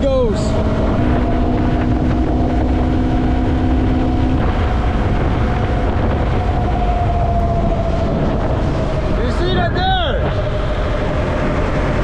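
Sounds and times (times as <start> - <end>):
motorcycle engine cruising: 0.0 - 12.0
wind rushing over microphone: 0.0 - 12.0.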